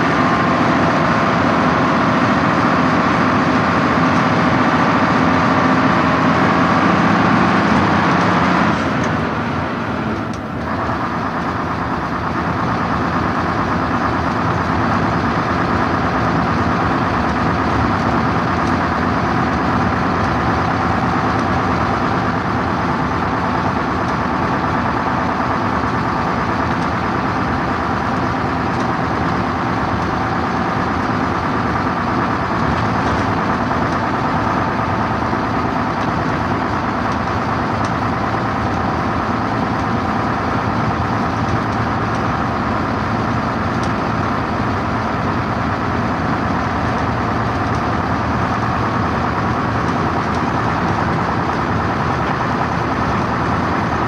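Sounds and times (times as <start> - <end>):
coach engine droning: 0.0 - 54.0.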